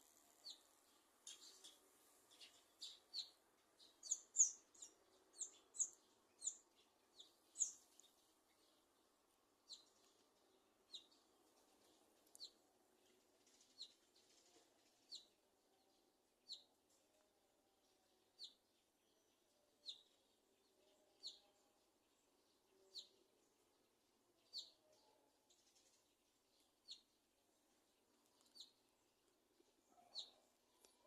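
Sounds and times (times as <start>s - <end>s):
small bird chirping: 0.0s - 31.0s.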